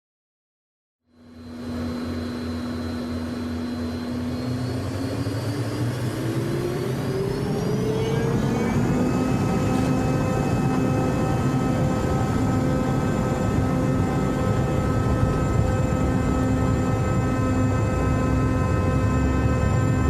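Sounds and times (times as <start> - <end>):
jet engine whine: 1.1 - 20.0.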